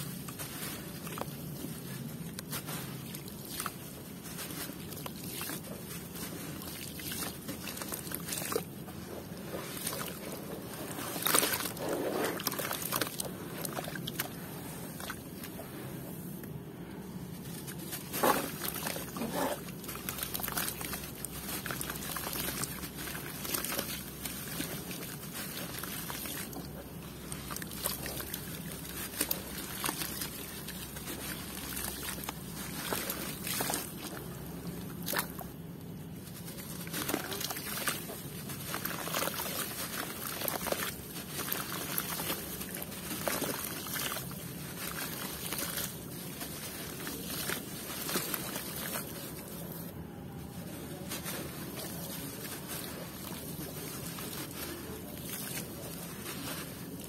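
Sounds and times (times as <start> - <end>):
water sloshing in a basin: 0.0 - 16.3, 17.4 - 35.6, 36.2 - 49.8, 50.8 - 57.0
wet dirt crackling and splashing: 0.0 - 57.0.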